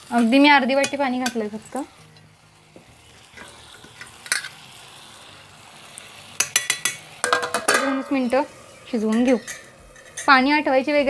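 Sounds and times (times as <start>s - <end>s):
mushrooms simmering in pan: 0.0s - 11.0s.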